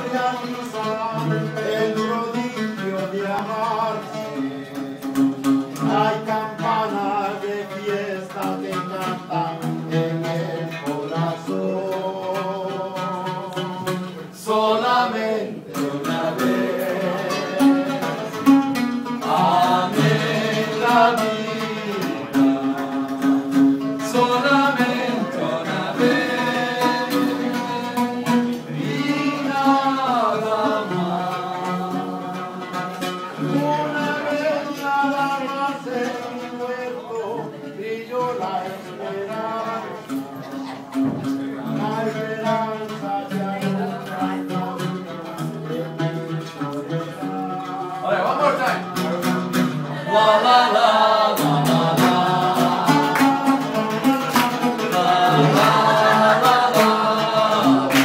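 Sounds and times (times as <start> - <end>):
instrumental accompaniment: 0.0 - 58.0
man singing: 0.0 - 58.0.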